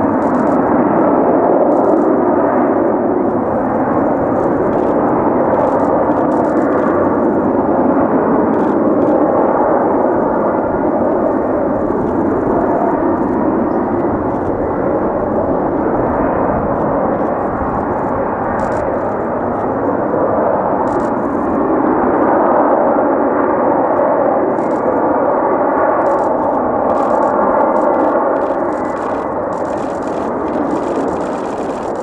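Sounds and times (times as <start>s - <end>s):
jet engine hovering: 0.0s - 32.0s.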